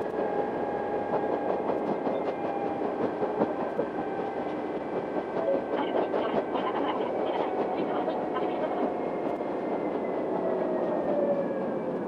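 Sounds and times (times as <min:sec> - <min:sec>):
railcar engine and wheel noise: 0:00.0 - 0:12.0.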